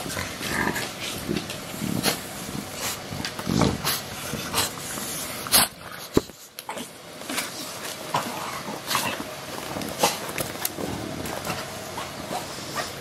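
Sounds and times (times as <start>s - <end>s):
dogs breathing and snuffling: 0.0s - 13.0s.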